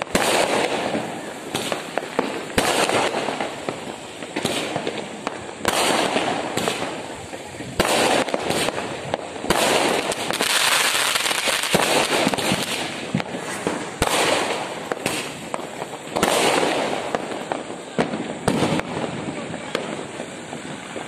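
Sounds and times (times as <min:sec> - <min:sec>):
fireworks bangs: 0:00.0 - 0:21.0
fireworks fizzing and crackling: 0:00.0 - 0:21.0.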